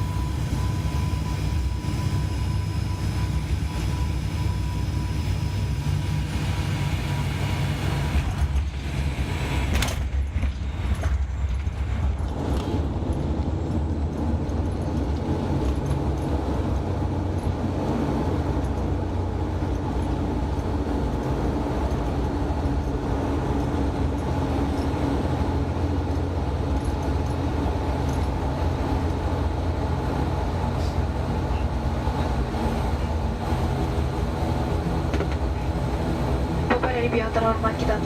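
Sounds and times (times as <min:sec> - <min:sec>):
turboprop cabin drone: 0:00.0 - 0:38.0.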